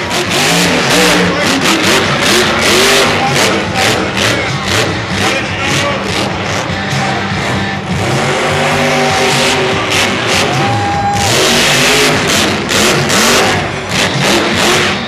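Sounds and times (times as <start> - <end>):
monster truck engines revving: 0.0 - 15.0.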